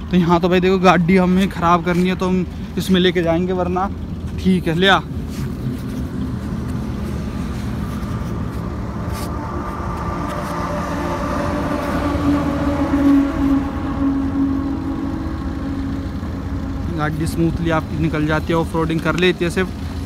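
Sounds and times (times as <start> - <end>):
diesel car engine driving slowly: 0.0 - 20.0.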